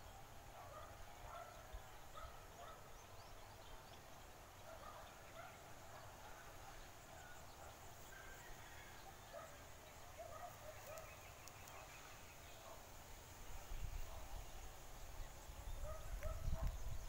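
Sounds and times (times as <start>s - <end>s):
birds chirping: 0.0s - 13.0s, 13.7s - 17.0s.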